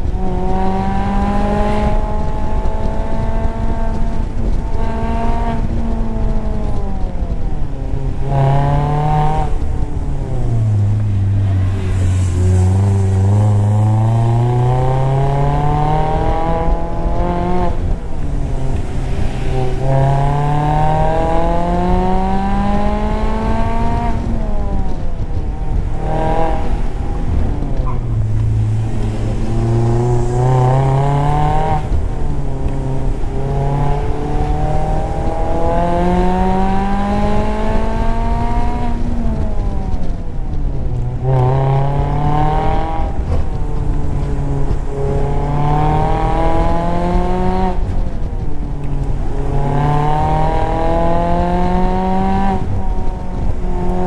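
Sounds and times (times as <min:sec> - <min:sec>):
car engine accelerating: 0:00.0 - 0:54.0
wind and road noise: 0:00.0 - 0:54.0.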